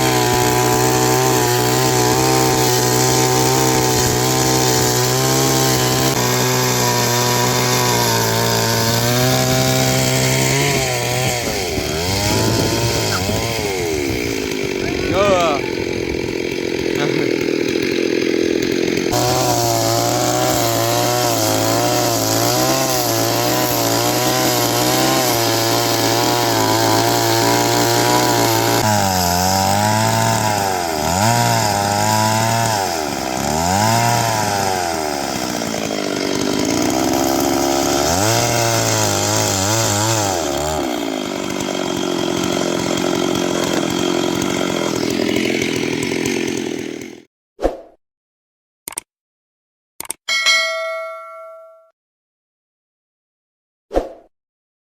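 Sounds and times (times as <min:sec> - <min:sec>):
chainsaw cutting wood: 0:00.0 - 0:47.3.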